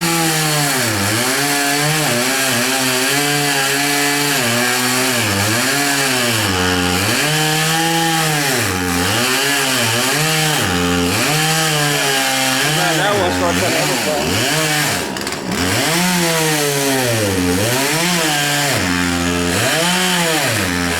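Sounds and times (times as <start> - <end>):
chainsaw cutting wood: 0.0 - 20.9.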